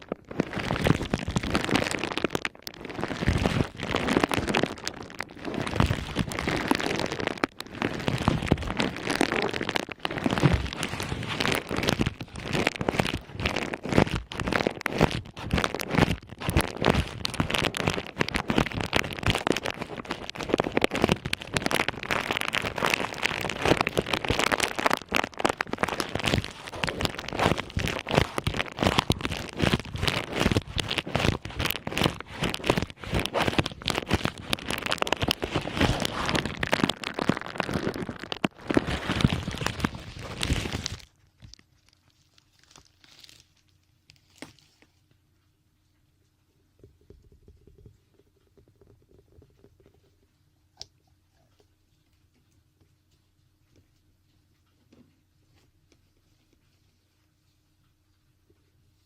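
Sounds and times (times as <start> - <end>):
crackling rustle on microphone: 0.0 - 45.4, 46.0 - 59.0.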